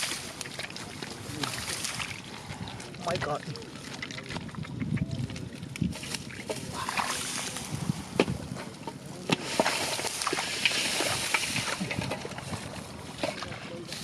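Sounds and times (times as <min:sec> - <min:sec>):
splashing in muddy water: 0:00.0 - 0:08.2, 0:09.3 - 0:14.0.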